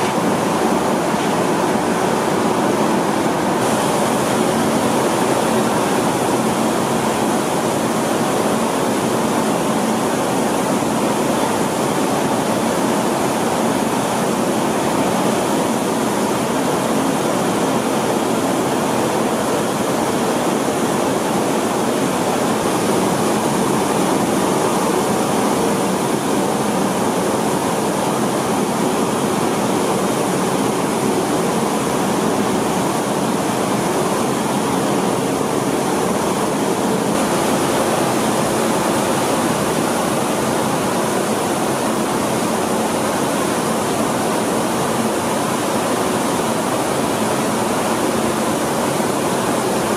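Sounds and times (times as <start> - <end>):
rice mill machinery running: 0.0 - 49.9.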